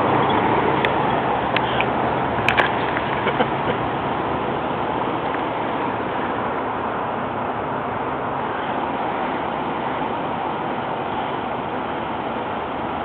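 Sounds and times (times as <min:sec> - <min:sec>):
road traffic rush: 0:00.0 - 0:13.0.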